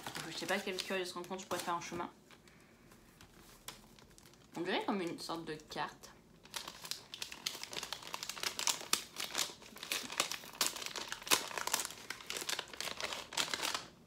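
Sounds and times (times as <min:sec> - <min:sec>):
paper envelope crinkling: 0:00.0 - 0:05.8, 0:06.4 - 0:14.0.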